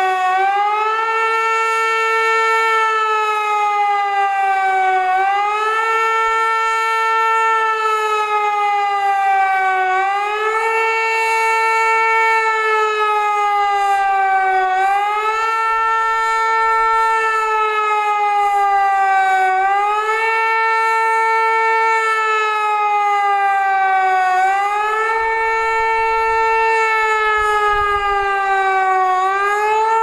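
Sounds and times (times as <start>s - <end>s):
civil defence siren wailing: 0.0s - 30.0s.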